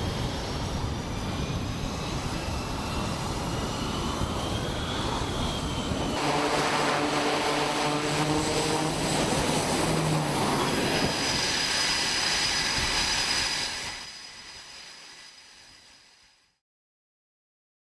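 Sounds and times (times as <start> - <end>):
turboprop engines roaring: 0.0 - 16.0.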